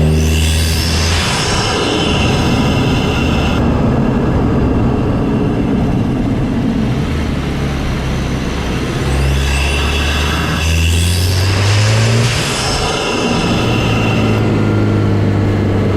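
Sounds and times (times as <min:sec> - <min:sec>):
car engine with intake rush: 0:00.0 - 0:15.9.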